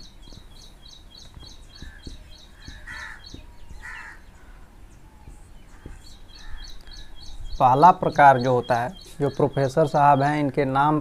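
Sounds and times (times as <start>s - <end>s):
harsh bird calls: 0.0s - 11.0s
small bird chirping: 0.0s - 11.0s.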